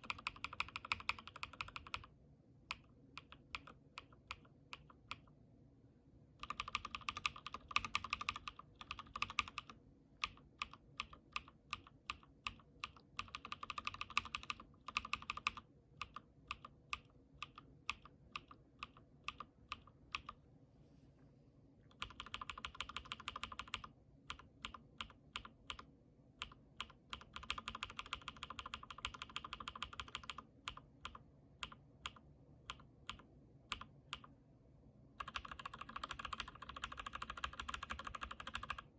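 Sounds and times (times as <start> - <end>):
mechanical keyboard typing: 0.0 - 2.1, 2.7 - 5.2, 6.4 - 20.4, 21.9 - 34.3, 35.2 - 38.9.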